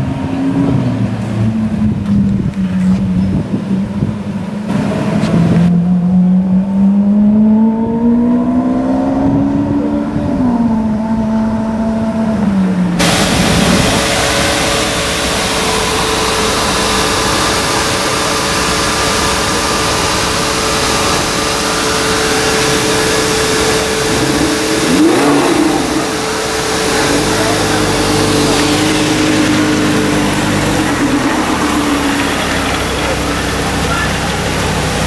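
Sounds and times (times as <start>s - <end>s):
sports car engine idling and revving: 0.0s - 35.0s.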